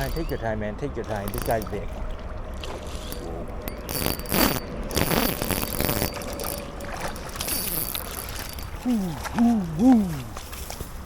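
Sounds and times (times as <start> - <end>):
water splashing: 0.0 - 10.7
steady low rumble: 0.0 - 11.0.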